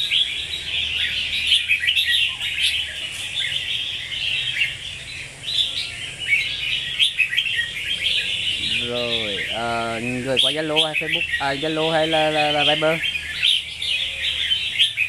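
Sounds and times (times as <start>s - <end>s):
bird chirping song: 0.0s - 15.0s.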